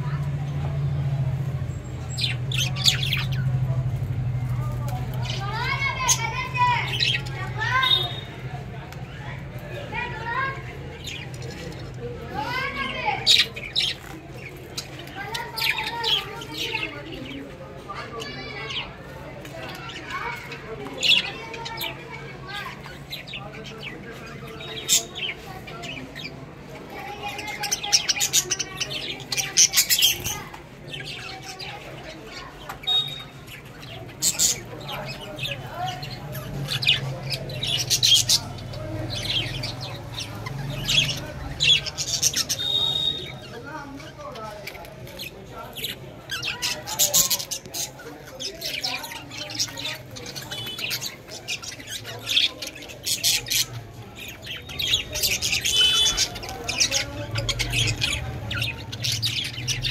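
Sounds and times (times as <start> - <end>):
budgerigars chirping and chattering: 1.3 - 59.9.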